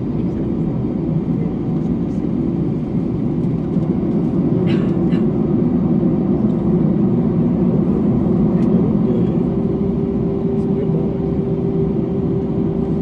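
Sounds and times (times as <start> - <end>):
jet engines running at low thrust: 0.0 - 13.0
landing gear rumbling on taxiway: 0.0 - 13.0.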